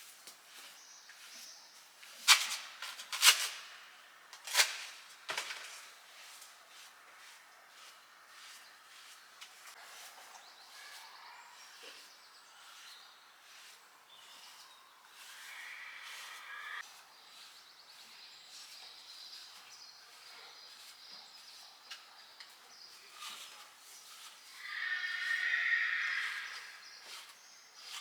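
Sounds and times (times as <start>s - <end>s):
small birds chirping: 0.3s - 2.0s, 6.2s - 28.0s.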